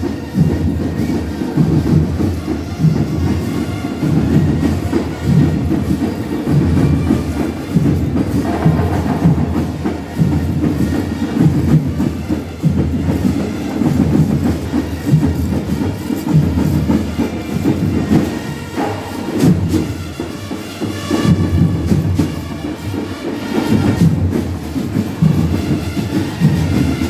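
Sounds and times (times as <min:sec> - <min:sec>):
heavy drumming: 0:00.0 - 0:27.0
marching band playing: 0:00.0 - 0:27.0.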